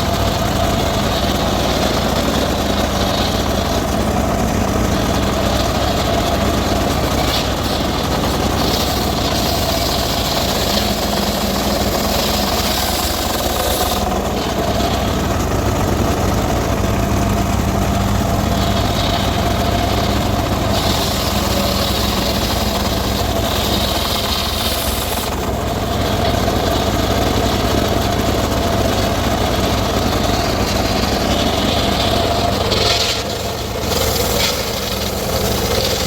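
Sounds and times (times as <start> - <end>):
circular saw cutting wood: 0.0 - 36.0.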